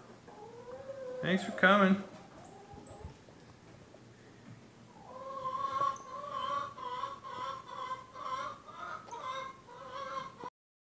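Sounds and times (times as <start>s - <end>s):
hens clucking: 0.0s - 4.1s, 4.8s - 10.5s.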